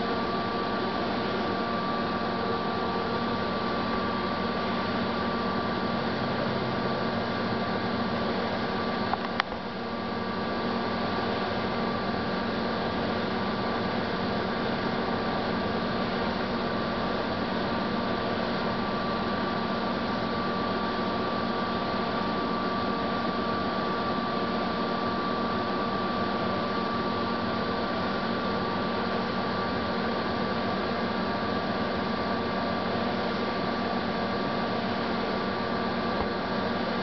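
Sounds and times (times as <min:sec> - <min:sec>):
faint high whine: 0:00.0 - 0:37.0.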